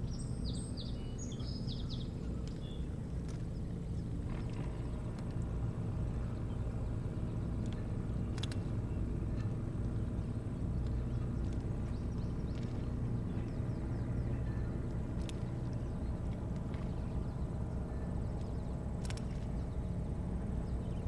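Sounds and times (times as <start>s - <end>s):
faint high chirps and ticks: 0.0s - 21.0s
low motor hum: 0.0s - 21.0s.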